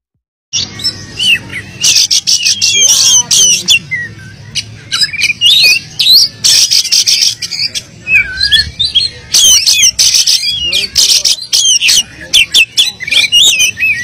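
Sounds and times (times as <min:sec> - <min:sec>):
songbird singing: 0:00.5 - 0:14.0.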